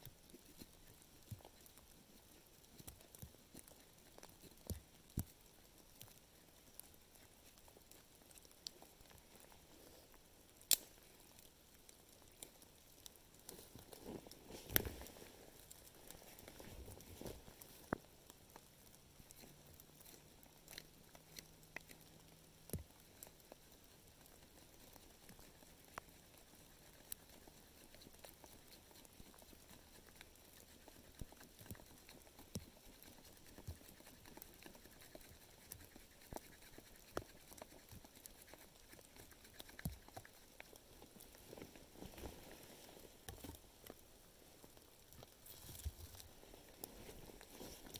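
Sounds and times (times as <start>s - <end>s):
faint ticks and taps: 0.0s - 42.6s, 43.2s - 47.9s.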